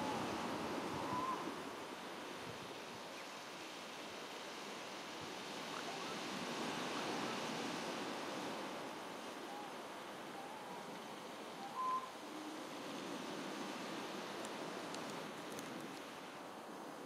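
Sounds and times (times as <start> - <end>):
surf washing on shore: 0.0 - 17.0
wind: 0.0 - 17.0.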